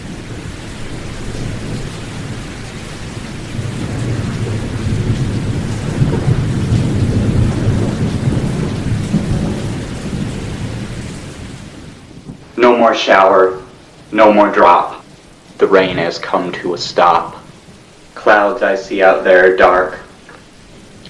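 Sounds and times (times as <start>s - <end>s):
rolling rumble of thunder: 0.0s - 21.0s
steady rain: 0.0s - 21.0s.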